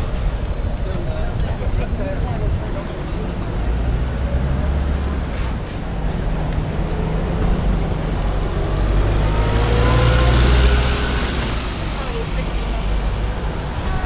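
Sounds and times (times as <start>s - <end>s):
bus engine humming: 0.0s - 14.0s
city street traffic: 0.0s - 14.0s.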